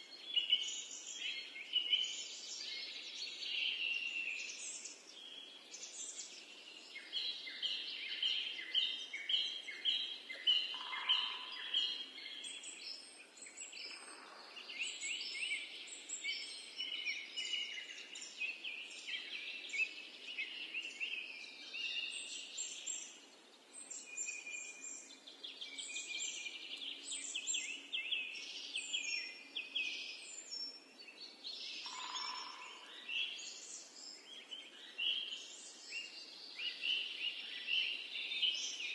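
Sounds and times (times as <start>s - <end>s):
birds singing and trilling: 0.0s - 38.9s
faint background hiss: 0.0s - 38.9s.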